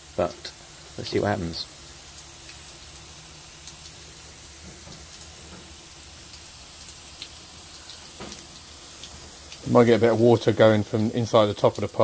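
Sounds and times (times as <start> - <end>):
hose spray hitting brick wall: 0.0 - 12.0.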